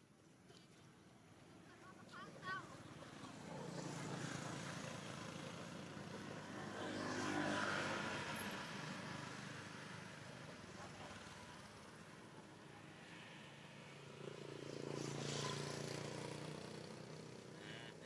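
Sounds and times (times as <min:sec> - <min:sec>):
motor vehicle passing: 0:02.1 - 0:18.0.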